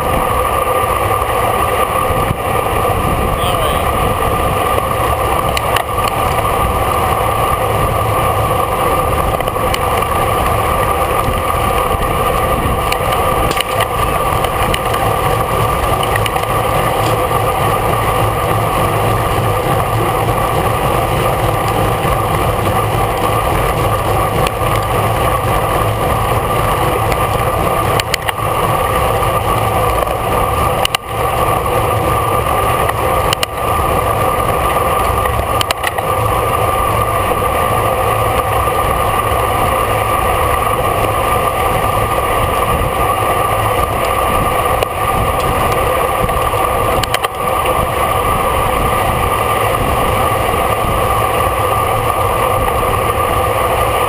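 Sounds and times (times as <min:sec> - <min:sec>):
bike tyre hum: 0:00.0 - 0:54.0
wind rush: 0:00.0 - 0:54.0.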